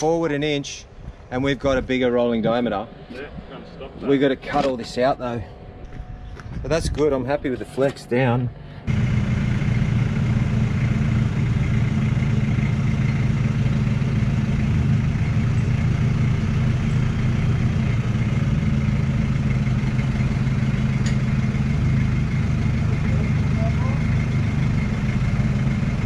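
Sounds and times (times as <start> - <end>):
forklift engine humming: 0.0 - 26.0.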